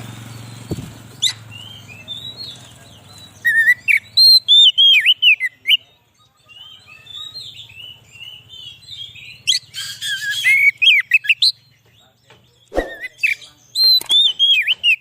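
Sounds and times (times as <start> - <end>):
bird singing whistled phrases: 1.2 - 5.8, 6.5 - 11.6, 12.6 - 15.0.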